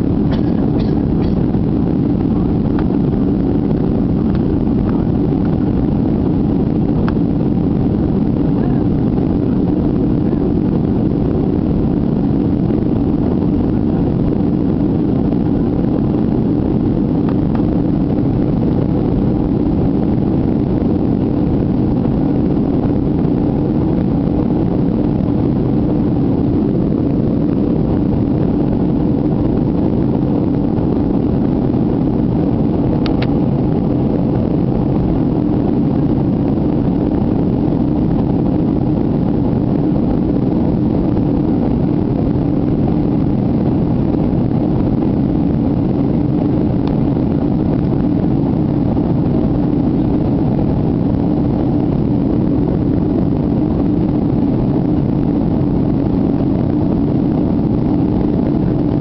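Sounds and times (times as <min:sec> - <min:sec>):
airplane cabin roar: 0:00.0 - 0:59.0
low hum: 0:00.0 - 0:59.0.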